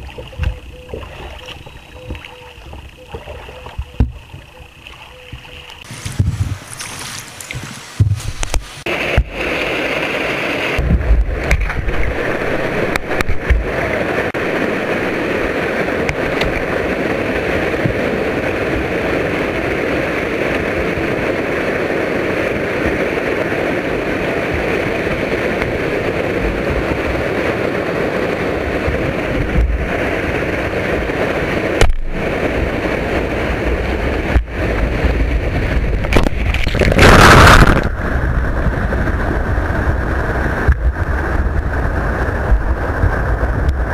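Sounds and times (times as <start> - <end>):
water rushing over a weir: 0.0 - 43.9.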